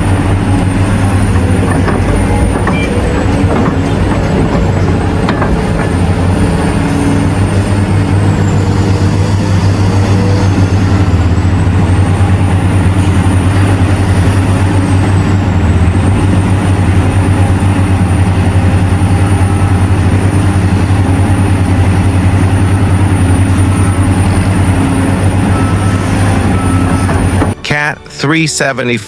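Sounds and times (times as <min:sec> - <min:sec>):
heavy diesel machinery droning: 0:00.0 - 0:29.0.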